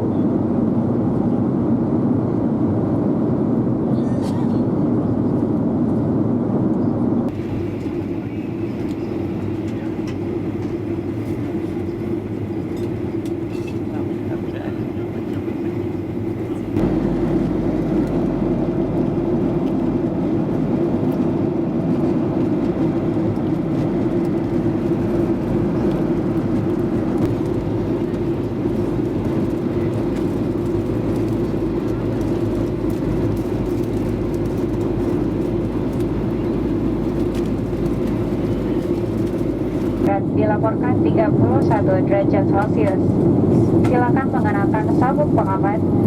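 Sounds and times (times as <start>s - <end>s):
airliner cabin drone: 0.0s - 46.0s.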